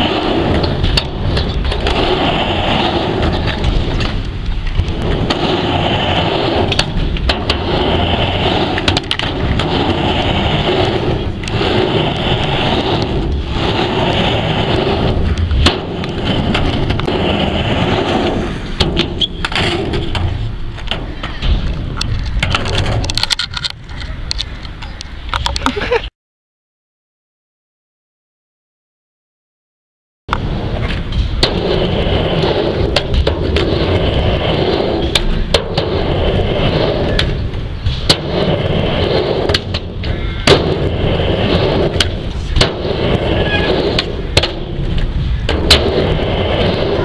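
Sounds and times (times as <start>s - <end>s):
skateboard wheels rolling on ramp: 0.0s - 26.0s, 30.3s - 47.0s.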